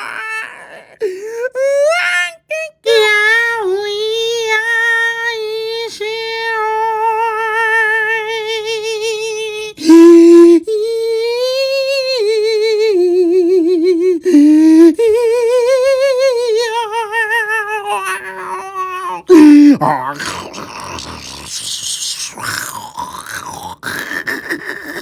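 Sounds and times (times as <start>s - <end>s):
high voice singing with vibrato: 0.0s - 25.0s.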